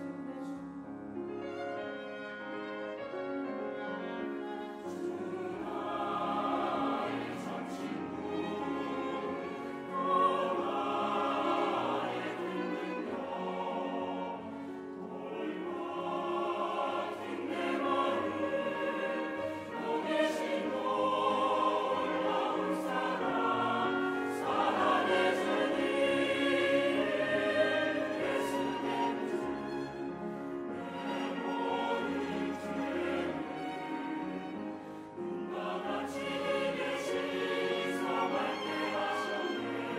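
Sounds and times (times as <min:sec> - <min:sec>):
clarinet: 0:00.0 - 0:15.5, 0:17.5 - 0:36.9
violin: 0:00.0 - 0:39.9
mixed choir singing: 0:03.8 - 0:39.9.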